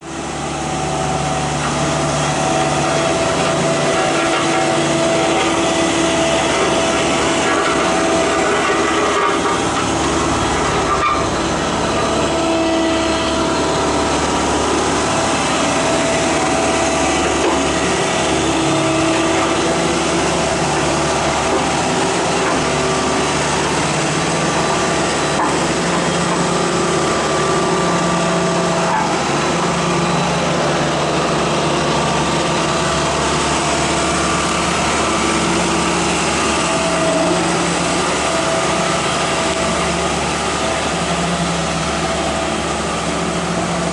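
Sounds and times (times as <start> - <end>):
road-works machinery engines: 0.0 - 43.9.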